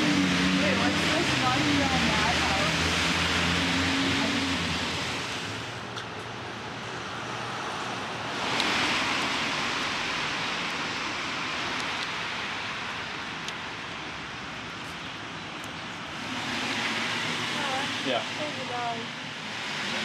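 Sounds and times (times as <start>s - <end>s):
traffic hiss on wet streets: 0.0s - 20.0s.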